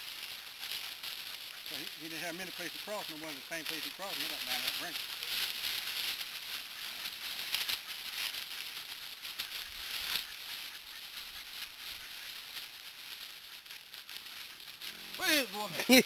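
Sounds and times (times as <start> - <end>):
footsteps crunching dry leaves: 0.0 - 16.0.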